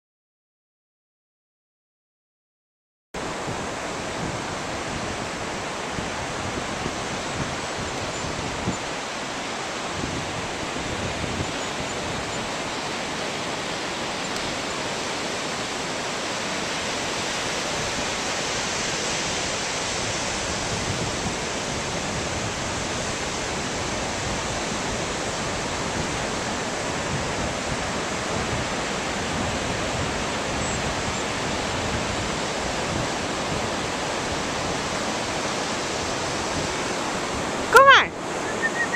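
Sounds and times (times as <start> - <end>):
ocean surf breaking: 3.2 - 38.9.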